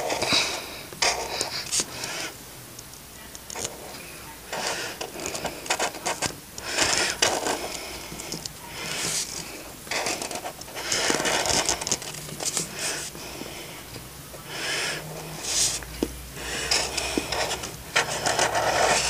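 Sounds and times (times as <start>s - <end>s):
drawing tool scratching paper: 0.0s - 2.4s, 3.5s - 13.5s, 14.5s - 15.8s, 16.4s - 19.0s.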